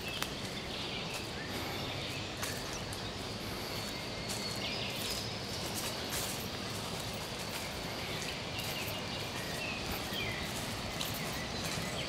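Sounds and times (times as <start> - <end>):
footsteps crunching on dry leaves: 0.0 - 12.0
high bird calls: 0.0 - 12.0
steady outdoor hiss: 0.0 - 12.0.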